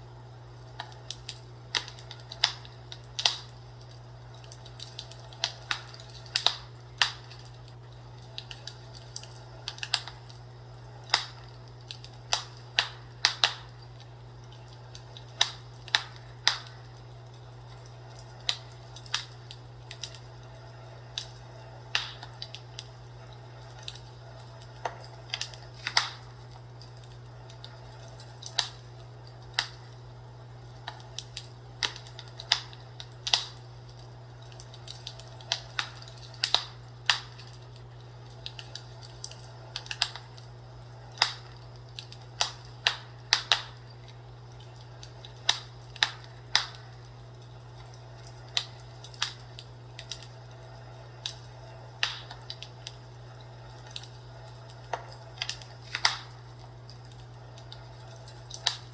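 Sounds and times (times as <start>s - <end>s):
steady low hum: 0.0s - 58.9s
wood fire crackling and popping: 0.0s - 58.9s.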